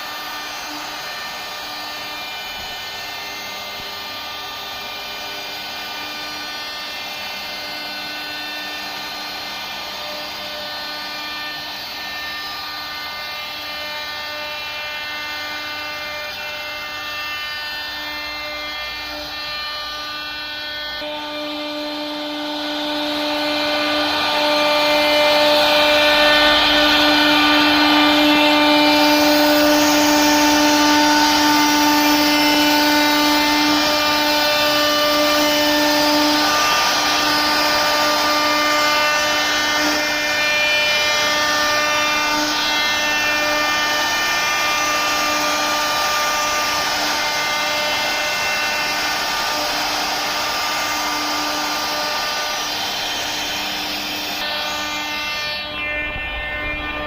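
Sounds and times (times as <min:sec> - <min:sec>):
router bit cutting wood: 0:00.0 - 0:57.0
router spindle whining: 0:00.0 - 0:57.0.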